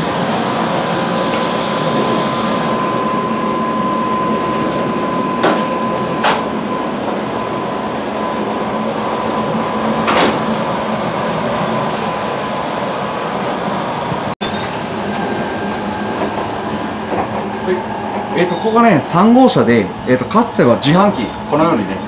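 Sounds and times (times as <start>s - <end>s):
electric train rumble: 0.0s - 22.0s.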